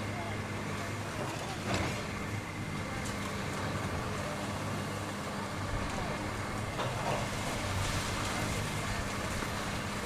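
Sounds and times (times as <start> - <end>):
heavy machinery diesel engine rumbling: 0.0 - 10.0.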